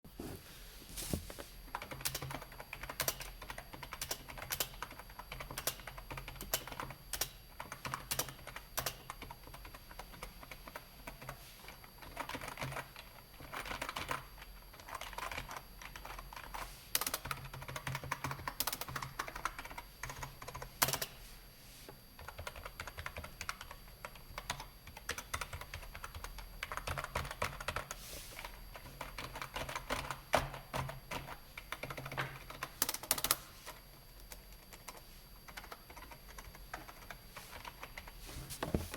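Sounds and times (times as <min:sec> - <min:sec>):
keyboard typing: 0:01.7 - 0:21.1, 0:22.2 - 0:38.2.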